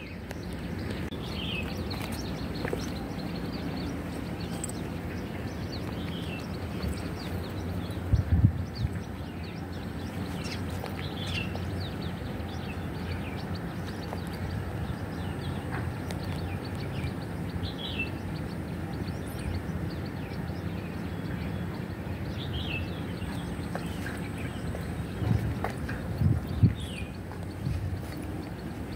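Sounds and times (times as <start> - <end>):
bird chirping: 0.0 - 28.9
low outdoor rumble: 0.0 - 28.9.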